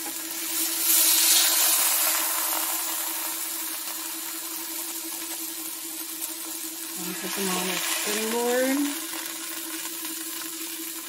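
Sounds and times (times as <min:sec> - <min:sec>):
steady low hum: 0:00.0 - 0:09.2
steak sizzling in frying pan: 0:00.0 - 0:11.0.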